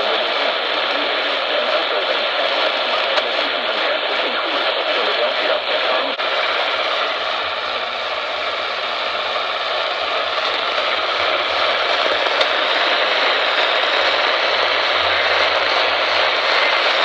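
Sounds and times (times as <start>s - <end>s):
radio click: 0.0s - 7.3s, 9.2s - 17.0s
radio static hiss: 0.0s - 17.0s.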